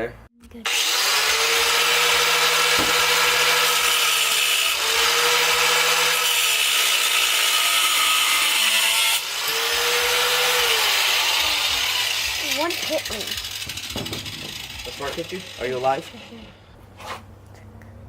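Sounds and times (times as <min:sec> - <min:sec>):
angle grinder cutting steel: 0:00.7 - 0:16.6.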